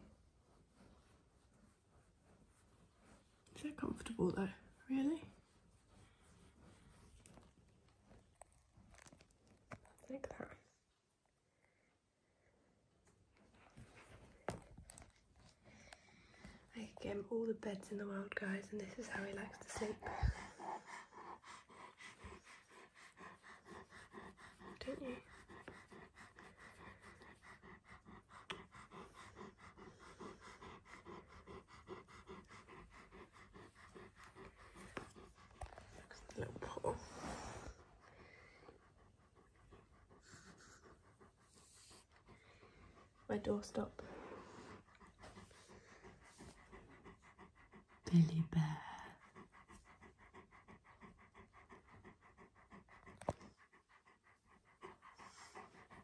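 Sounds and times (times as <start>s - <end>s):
dog panting: 0.0s - 56.0s.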